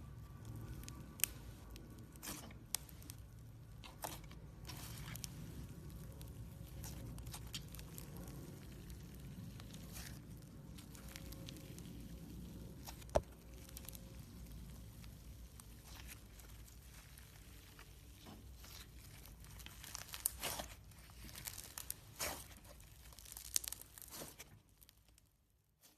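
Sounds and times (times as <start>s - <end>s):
slime squeezed with sticky clicks: 0.3s - 25.2s.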